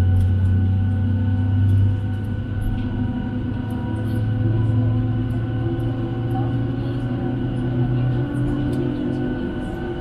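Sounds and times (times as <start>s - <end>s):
airplane cabin engine drone: 0.0s - 10.0s.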